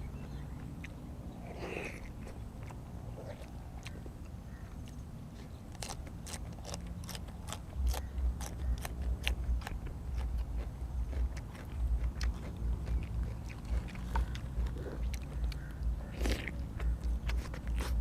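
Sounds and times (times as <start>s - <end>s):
person chewing crunchy food: 0.2s - 18.0s.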